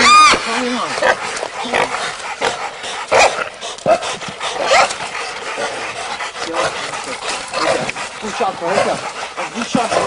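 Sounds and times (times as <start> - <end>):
dogs barking and yelping: 0.0 - 10.0.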